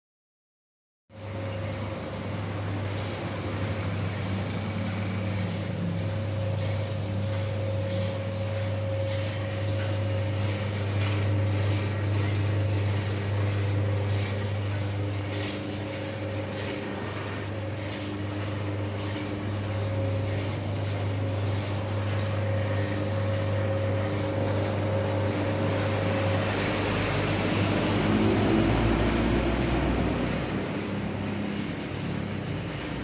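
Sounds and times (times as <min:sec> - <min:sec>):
coffee roaster motor hum: 0:01.1 - 0:33.0.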